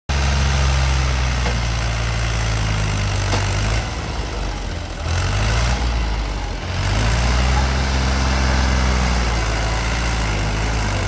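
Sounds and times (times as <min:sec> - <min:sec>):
diesel tractor engines running: 0:00.1 - 0:11.0.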